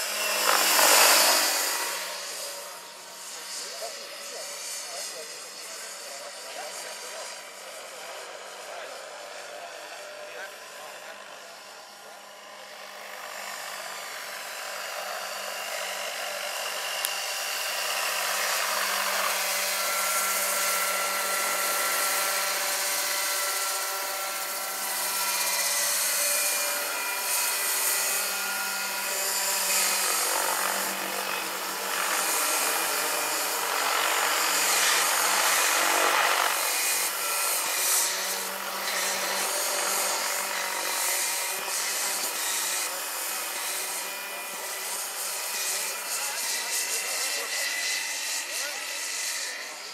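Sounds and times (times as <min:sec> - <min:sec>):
model helicopter whine: 0:00.0 - 0:49.9.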